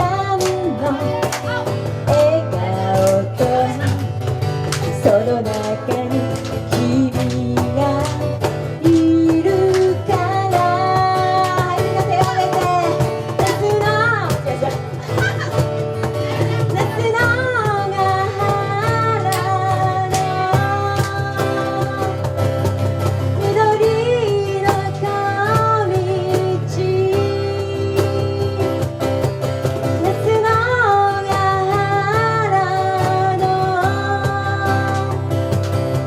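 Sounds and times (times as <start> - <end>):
guitar accompaniment: 0.0 - 36.0
steady drum beat: 0.0 - 36.0.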